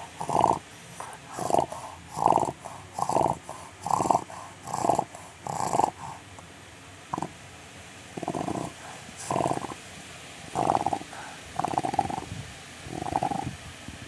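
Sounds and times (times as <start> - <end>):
dog snoring: 0.0 - 6.4, 7.1 - 7.4, 8.2 - 9.8, 10.5 - 13.6.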